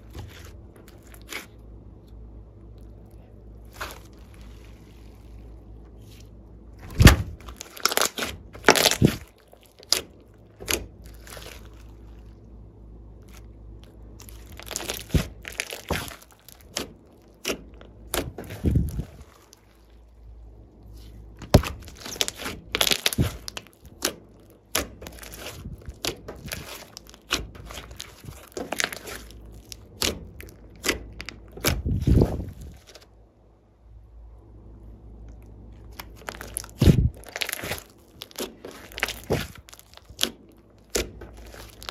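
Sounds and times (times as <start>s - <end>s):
slime crackling and squelching: 0.0s - 33.1s, 35.2s - 41.9s.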